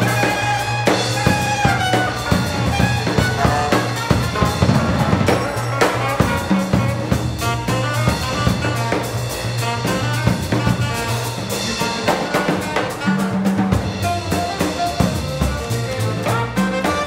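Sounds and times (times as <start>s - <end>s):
drums striking: 0.0s - 17.0s
jazz band playing: 0.0s - 17.0s.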